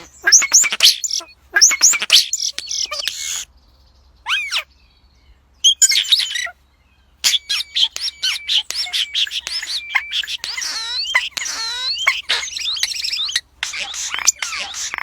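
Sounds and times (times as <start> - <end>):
birds chirping and calling: 0.0 - 4.8, 5.4 - 15.0.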